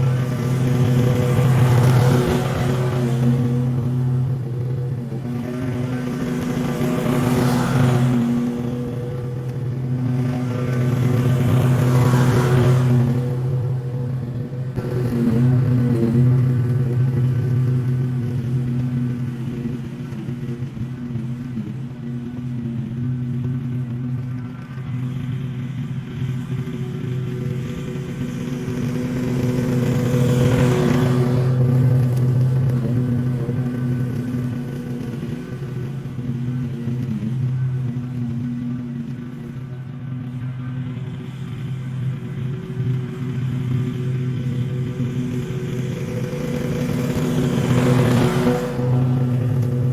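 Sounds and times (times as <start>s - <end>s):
small gasoline engine running: 0.0s - 49.9s.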